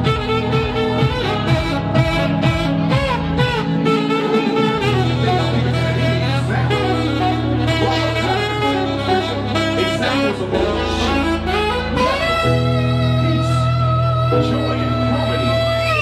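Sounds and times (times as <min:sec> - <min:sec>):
backing music with bass notes: 0:00.0 - 0:16.0
saxophone melody: 0:00.0 - 0:16.0.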